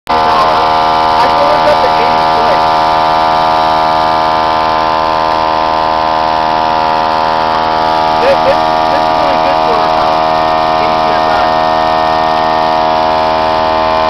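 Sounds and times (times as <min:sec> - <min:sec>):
loud buzzing hum: 0:00.1 - 0:14.0.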